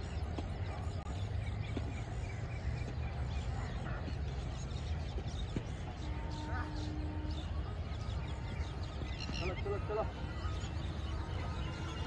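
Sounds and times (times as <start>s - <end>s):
faint rapid bird chirps: 0.0s - 12.0s.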